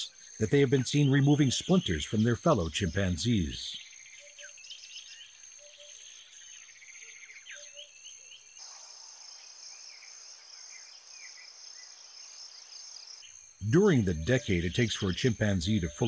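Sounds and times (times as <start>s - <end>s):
bird chirps: 0.0s - 16.0s.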